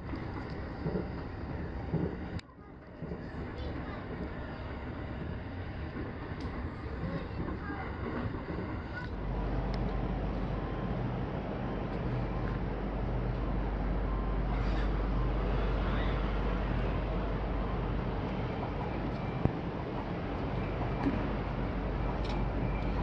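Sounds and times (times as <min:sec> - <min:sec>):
hum and rumble of train platform: 0:00.0 - 0:23.0.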